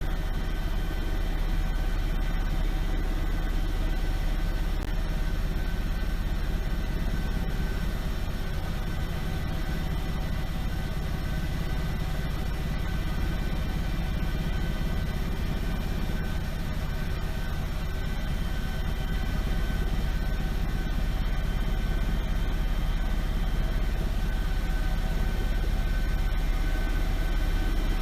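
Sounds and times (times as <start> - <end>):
machine hum with high whine: 0.0 - 28.0.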